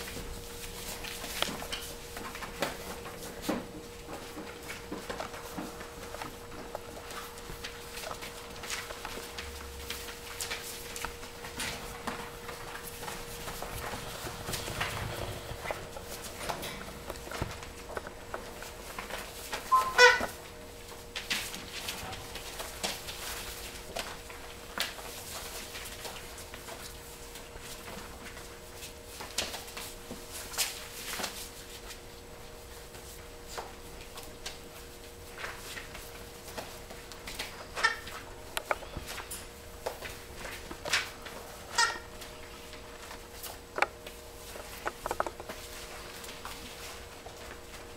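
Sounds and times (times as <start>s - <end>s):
faint steady hum: 0.0s - 47.9s
puppy claws clicking on paper floor: 0.0s - 47.9s.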